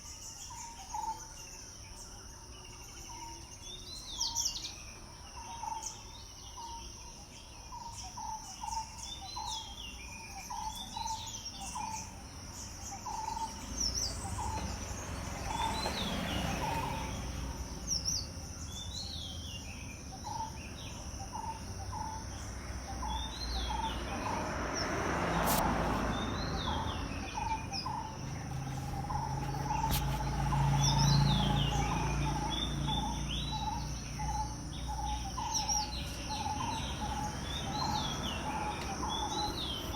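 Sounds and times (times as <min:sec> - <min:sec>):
birds chirping: 0:00.0 - 0:39.9
insect drone: 0:00.0 - 0:39.9.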